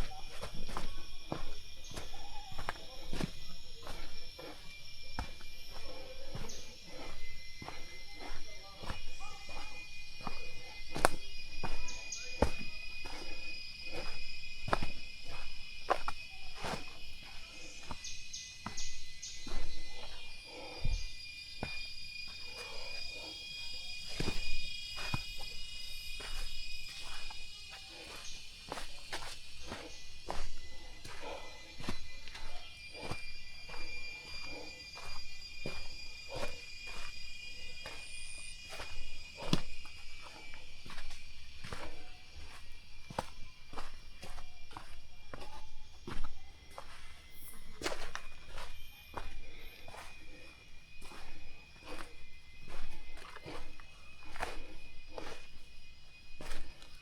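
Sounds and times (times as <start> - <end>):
footsteps going down steps: 0.0 - 57.0
forest insects droning: 0.0 - 57.0.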